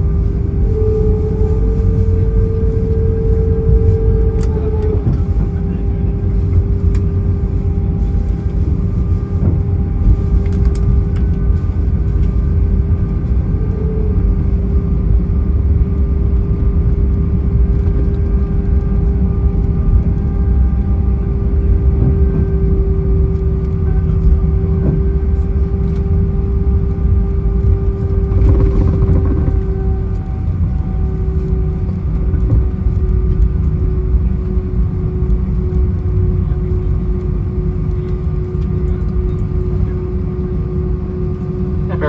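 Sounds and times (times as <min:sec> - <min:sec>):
low rumble of engines and wheels: 0:00.0 - 0:42.0
steady hum: 0:00.0 - 0:42.0.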